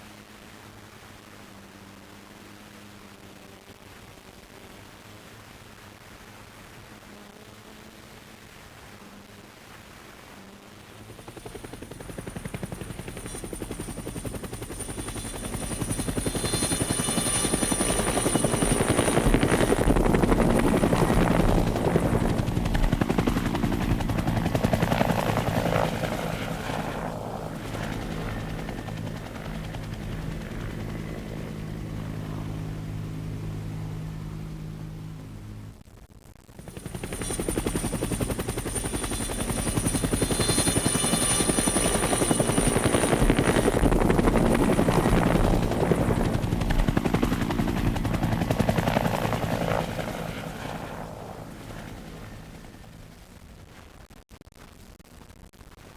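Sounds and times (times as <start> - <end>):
helicopter flying over: 0.1 - 35.8, 36.6 - 53.6.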